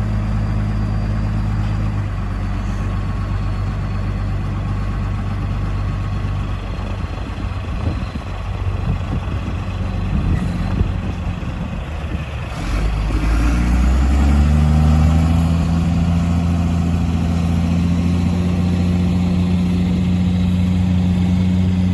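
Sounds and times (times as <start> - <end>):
dump truck diesel engine revving: 0.0 - 21.9.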